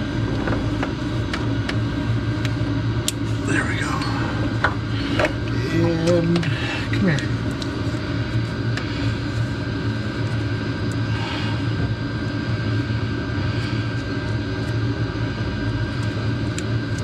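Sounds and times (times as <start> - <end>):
faint steady whine: 0.0 - 17.0
low mechanical drone: 0.0 - 17.0.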